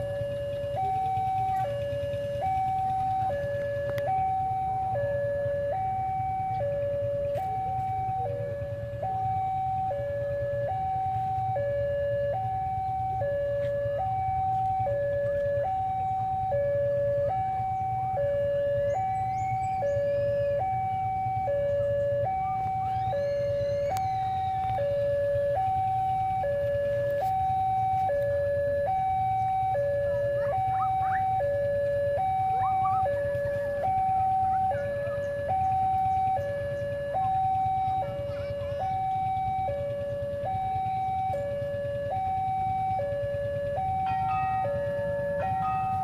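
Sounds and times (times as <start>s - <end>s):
level crossing two-tone alarm: 0.0s - 46.0s.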